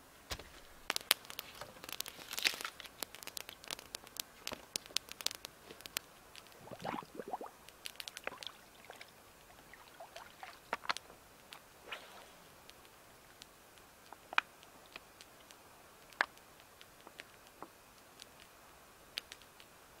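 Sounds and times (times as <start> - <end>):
dry twigs snapping and crackling: 0.3 - 9.6, 10.2 - 11.7, 12.6 - 19.7.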